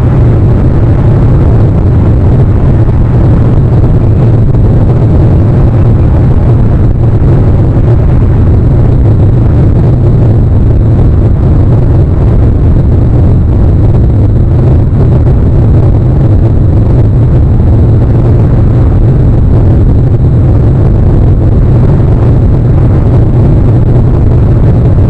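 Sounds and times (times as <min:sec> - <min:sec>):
low rumbling noise: 0:00.0 - 0:25.0.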